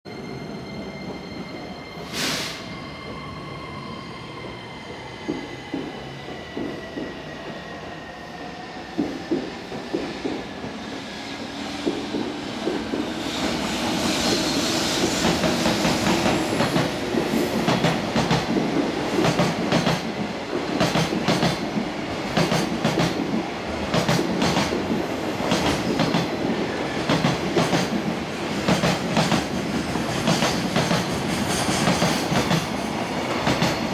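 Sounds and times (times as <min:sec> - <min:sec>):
high whine of train: 0:00.1 - 0:33.9.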